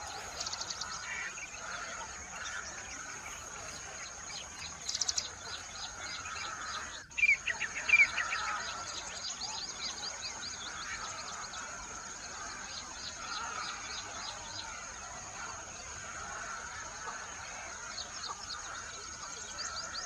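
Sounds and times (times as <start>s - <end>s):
small birds chirping: 0.0s - 20.0s
steady high-pitched hiss: 0.0s - 20.0s.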